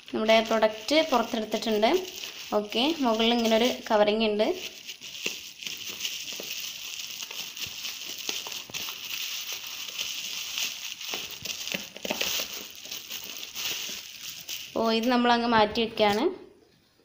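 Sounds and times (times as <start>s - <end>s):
sharp plastic crackles: 0.0s - 15.3s
bubble wrap crinkling: 0.0s - 16.3s.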